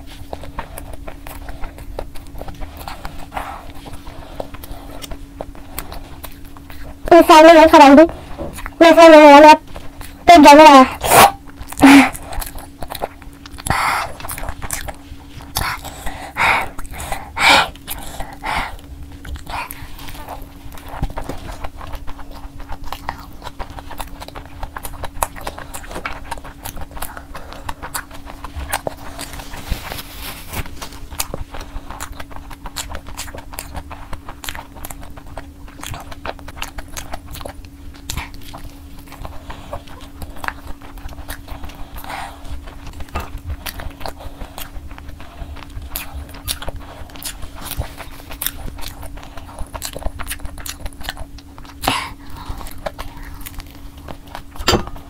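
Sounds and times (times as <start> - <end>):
chewing crispy fried chicken: 0.0 - 55.0.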